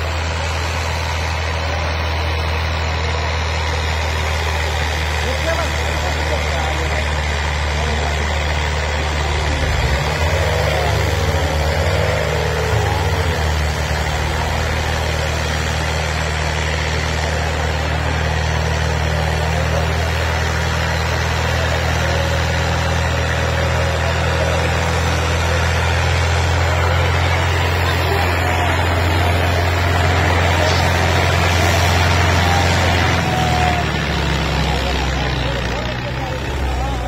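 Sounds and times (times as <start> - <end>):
tractor engine under load: 0.0 - 37.0.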